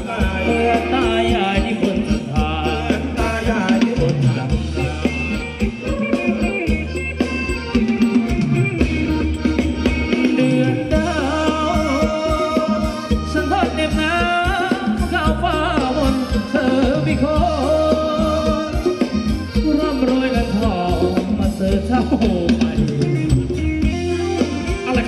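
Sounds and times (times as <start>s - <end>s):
live band dance music: 0.0s - 25.0s
person singing: 0.0s - 25.0s.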